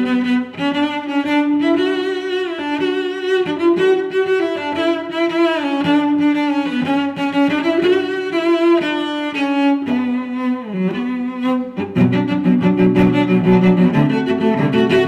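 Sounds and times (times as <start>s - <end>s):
bowed-string melody: 0.0s - 15.0s.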